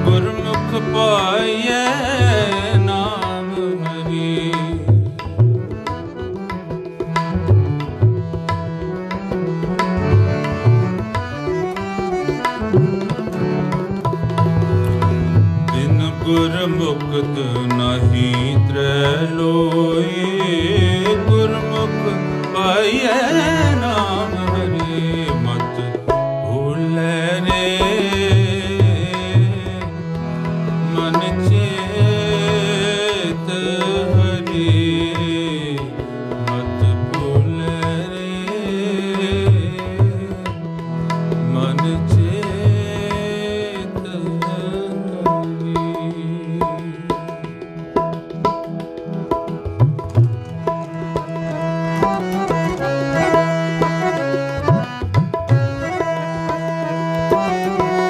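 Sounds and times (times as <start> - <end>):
harmonium playing chords: 0.0 - 58.0
tabla rhythm: 0.0 - 58.0.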